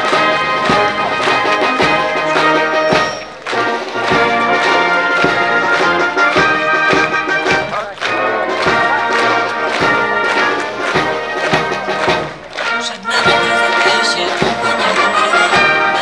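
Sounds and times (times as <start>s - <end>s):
brass band playing a march: 0.0s - 16.0s
steady drum beat: 0.0s - 16.0s.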